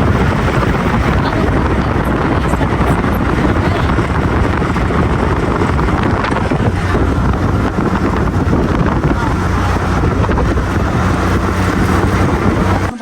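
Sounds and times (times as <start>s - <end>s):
moving vehicle rumble: 0.0s - 13.0s
wind buffeting microphone: 0.0s - 13.0s.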